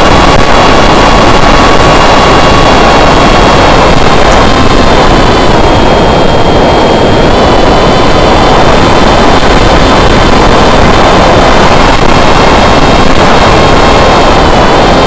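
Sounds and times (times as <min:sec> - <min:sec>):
electric motor whine: 0:00.0 - 0:15.0
wind rushing over microphone: 0:00.0 - 0:15.0.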